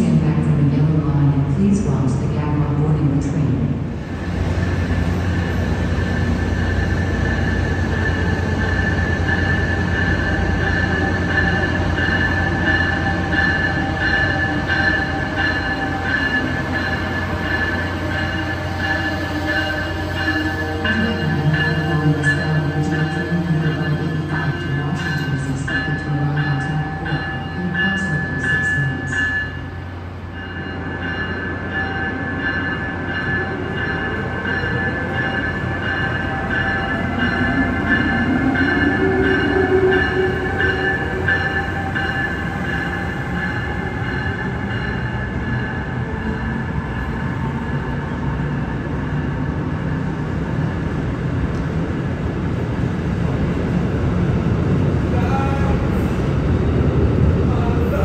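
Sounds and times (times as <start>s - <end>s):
electric locomotive whine: 0.0s - 58.0s
train cars rumbling past: 0.0s - 58.0s.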